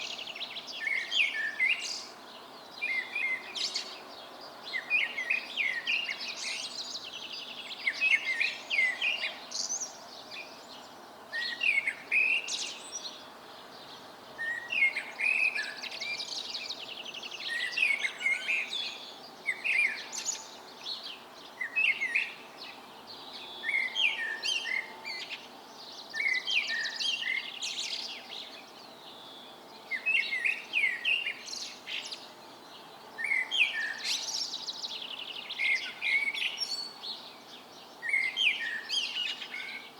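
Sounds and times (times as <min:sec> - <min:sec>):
songbirds singing with trills: 0:00.0 - 0:39.9.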